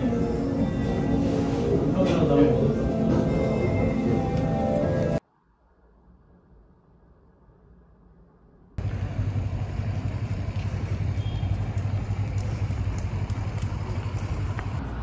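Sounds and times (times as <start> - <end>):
low outdoor rumble: 2.7 - 15.0.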